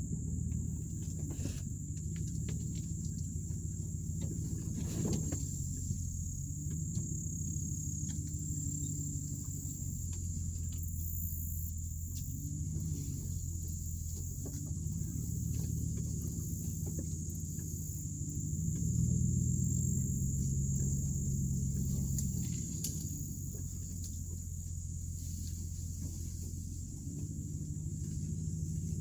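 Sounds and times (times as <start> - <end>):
pickup engine running slowly: 0.0 - 29.0
steady high-pitched whine: 0.0 - 29.0.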